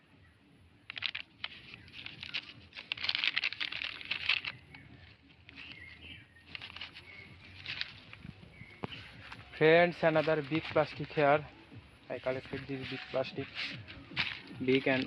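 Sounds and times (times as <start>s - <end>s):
plastic rustling and crackling: 0.9s - 11.4s, 12.1s - 15.0s.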